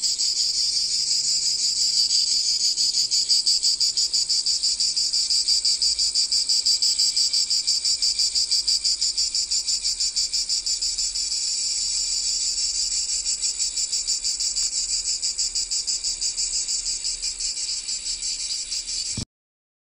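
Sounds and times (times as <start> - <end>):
cicadas buzzing: 0.0 - 19.2.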